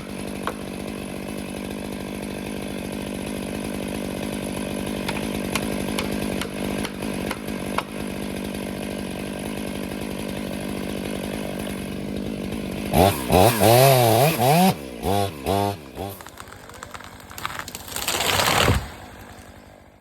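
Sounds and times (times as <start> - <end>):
two-stroke chainsaw running: 0.0 - 20.0.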